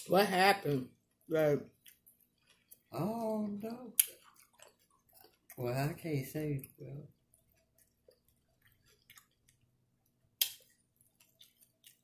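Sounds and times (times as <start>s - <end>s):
chewing nachos: 0.9s - 12.0s.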